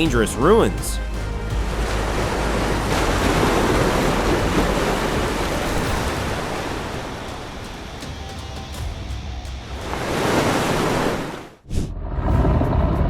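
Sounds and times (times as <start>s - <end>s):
ocean surf washing ashore: 0.0s - 11.6s.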